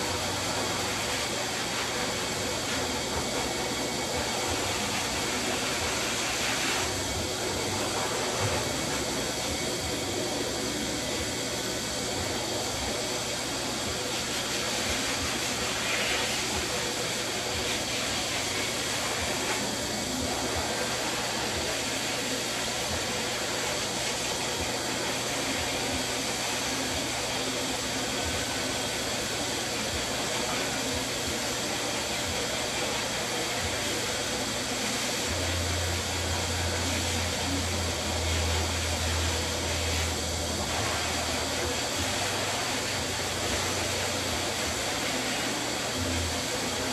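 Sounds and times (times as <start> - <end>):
electric dog clippers whirring: 0.0 - 46.9.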